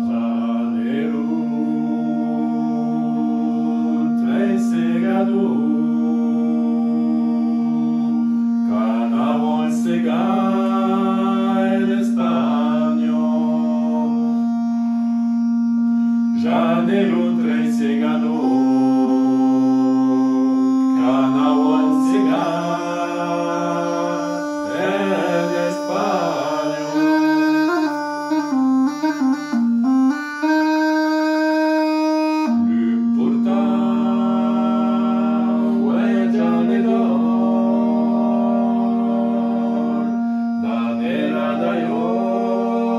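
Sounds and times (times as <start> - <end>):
man singing: 0.0 - 14.7, 16.4 - 28.0, 32.5 - 42.9
bagpipe playing: 0.0 - 42.9.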